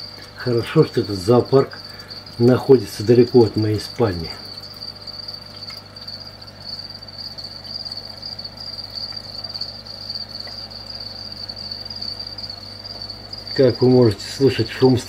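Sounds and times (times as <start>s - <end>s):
crickets chirring: 0.0s - 15.0s
steady low hum: 0.0s - 15.0s.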